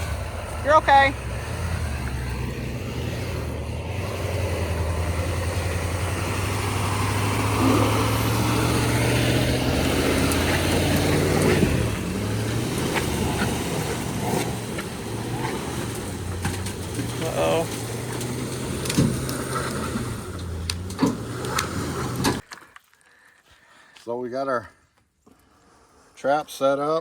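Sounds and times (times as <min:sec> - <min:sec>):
vehicle engine running: 0:00.0 - 0:22.4.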